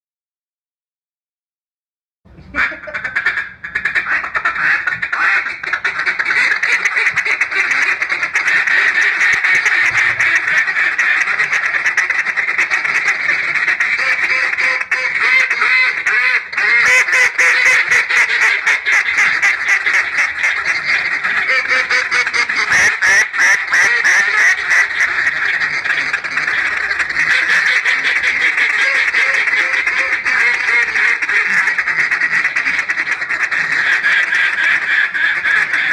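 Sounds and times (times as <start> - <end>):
duck call quacking: 2.5 - 35.9.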